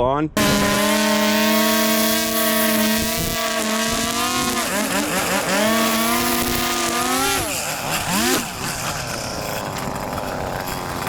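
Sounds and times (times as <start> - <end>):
string trimmer engine revving: 0.4 - 11.0.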